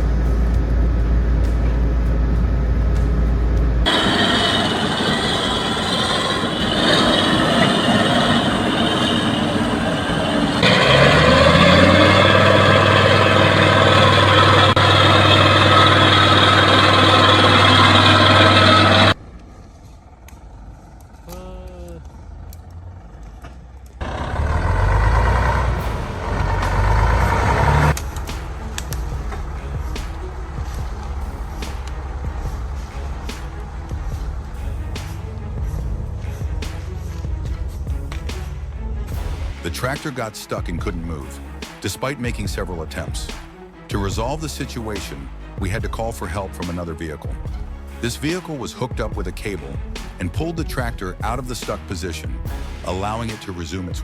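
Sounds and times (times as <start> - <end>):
heavy tractor engines working: 0.0 - 53.3.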